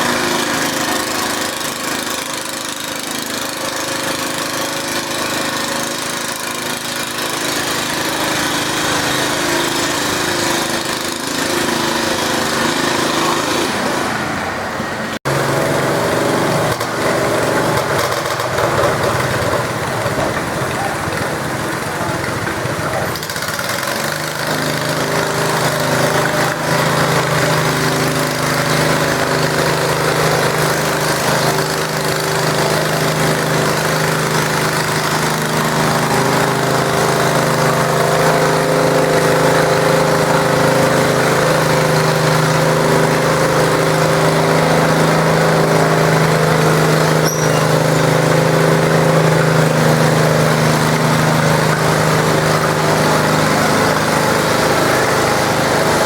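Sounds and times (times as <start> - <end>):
garden tractor engine running: 0.0 - 56.0.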